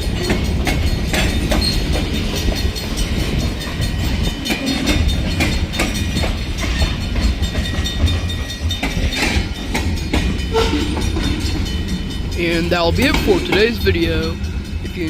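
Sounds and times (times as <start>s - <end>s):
freight train rumbling past: 0.0s - 15.0s
wheels clicking over rail joints: 0.0s - 15.0s.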